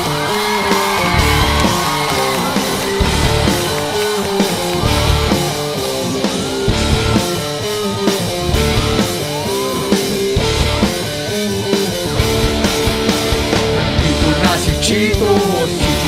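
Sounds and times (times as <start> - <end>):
drum kit playing: 0.0 - 16.0
electric guitar: 0.0 - 16.0.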